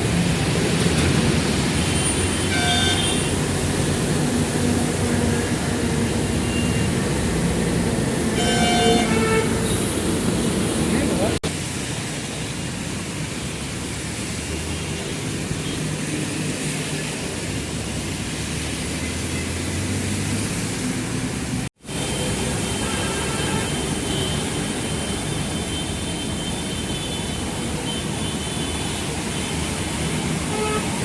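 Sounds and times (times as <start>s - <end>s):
traffic roar on wet road: 0.0s - 31.0s.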